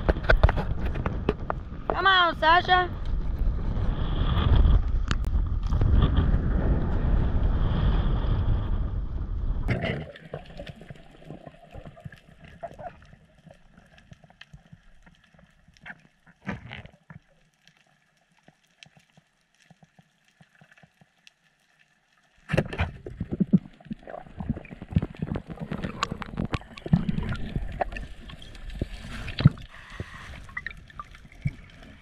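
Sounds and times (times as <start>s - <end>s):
underwater clicks and crackles: 0.0s - 7.2s, 9.6s - 32.0s.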